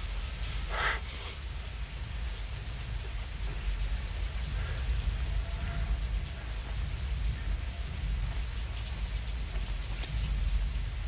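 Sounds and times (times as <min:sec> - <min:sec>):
deep rumble: 0:00.0 - 0:11.0
heavy rain: 0:00.0 - 0:11.0.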